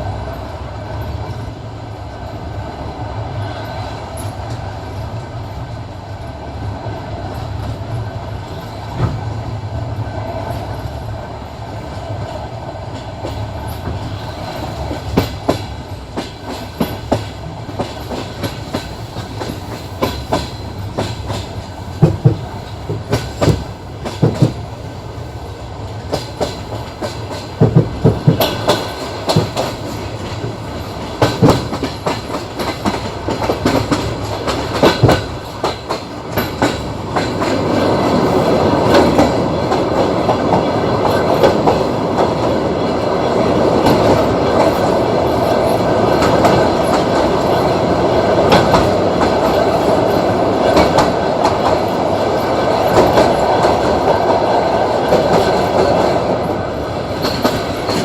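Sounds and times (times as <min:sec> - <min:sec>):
clickety-clack of rail joints: 0:00.0 - 0:58.0
train wheels rumbling: 0:00.0 - 0:58.0.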